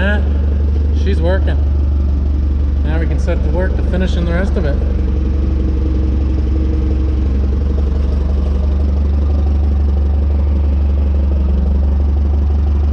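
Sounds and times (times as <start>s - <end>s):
forklift engine idling: 0.0s - 12.9s.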